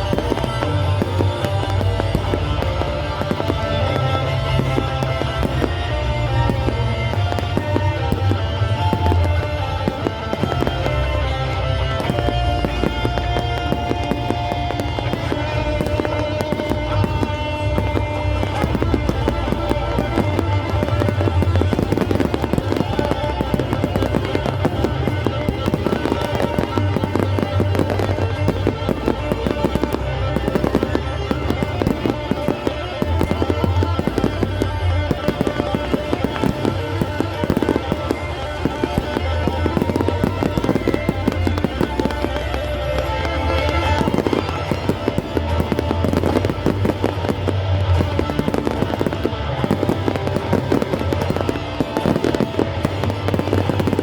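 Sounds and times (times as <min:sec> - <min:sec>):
fireworks bangs and crackles: 0:00.0 - 0:54.0
music with pulsing bass: 0:00.0 - 0:54.0.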